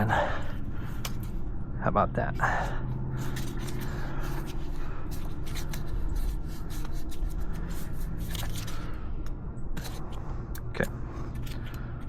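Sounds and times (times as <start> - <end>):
steady low rumble: 0.0 - 12.0
parts clicking and scraping: 0.5 - 1.6, 2.4 - 12.0.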